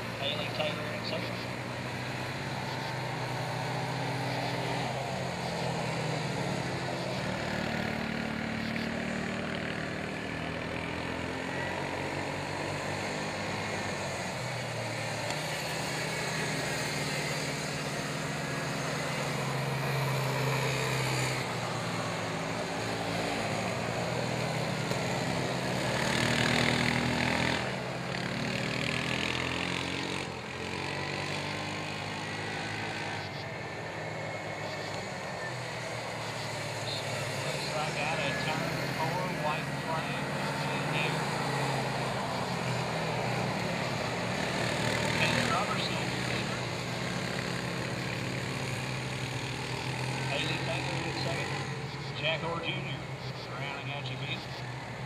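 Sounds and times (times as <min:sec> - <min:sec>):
quad engines racing: 0:00.0 - 0:55.0.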